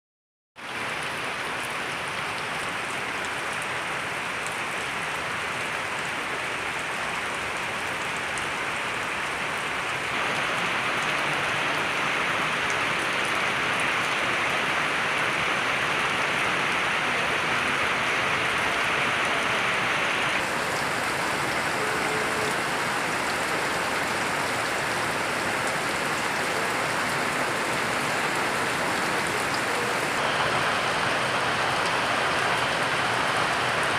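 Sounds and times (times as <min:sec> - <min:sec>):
steady rain falling: 0:00.6 - 0:33.9.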